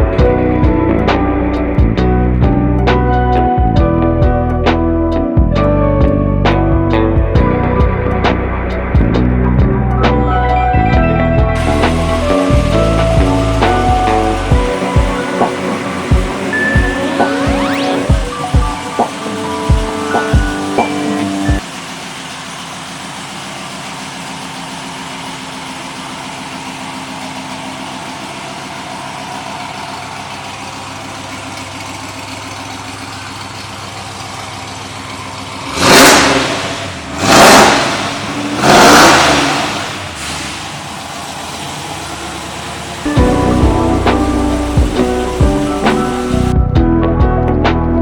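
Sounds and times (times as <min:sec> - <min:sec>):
truck engine idling and revving: 0:00.0 - 0:48.0.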